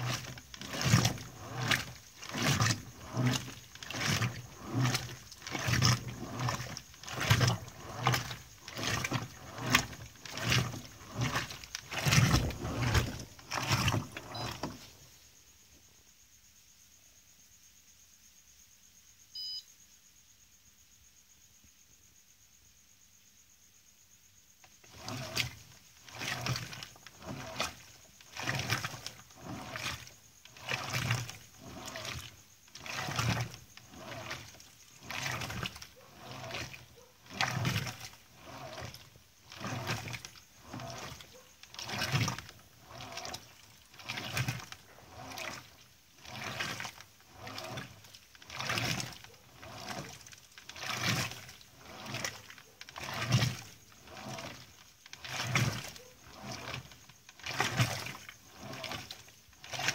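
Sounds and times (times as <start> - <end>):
low motor hum: 0.0 - 15.0, 24.9 - 59.9
washing machine agitator swishing: 0.0 - 15.2, 24.6 - 59.9.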